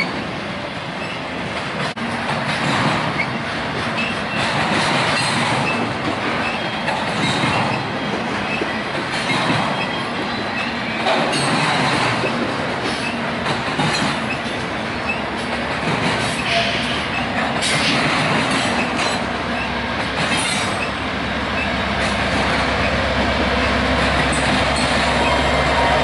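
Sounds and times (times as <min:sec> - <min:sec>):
diesel locomotive drone: 0:00.0 - 0:26.0
train wheels rumbling and clattering: 0:00.0 - 0:26.0.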